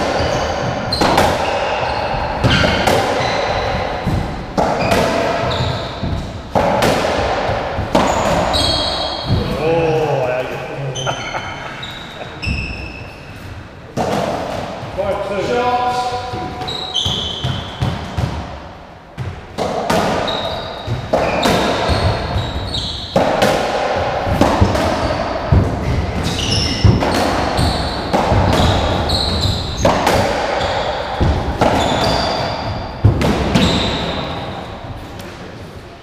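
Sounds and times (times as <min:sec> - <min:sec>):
shoes squeaking on wooden floor: 0:00.0 - 0:06.6, 0:07.5 - 0:13.7, 0:15.0 - 0:18.2, 0:20.2 - 0:23.2, 0:25.1 - 0:35.0
ball hits echoing in squash court: 0:00.0 - 0:36.0.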